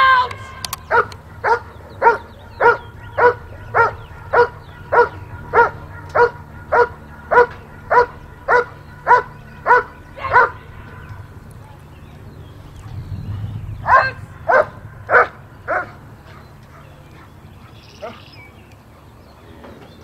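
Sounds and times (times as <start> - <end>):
dog barking: 0.8 - 11.9, 12.7 - 18.2.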